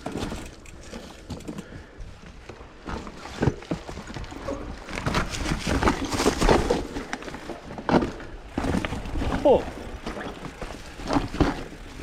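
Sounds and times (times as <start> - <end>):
bike tyres scraping on dirt and rock: 0.0 - 12.0.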